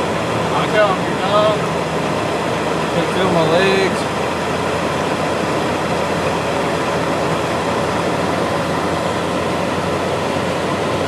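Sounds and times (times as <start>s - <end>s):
vehicle cabin road noise: 0.0s - 11.0s.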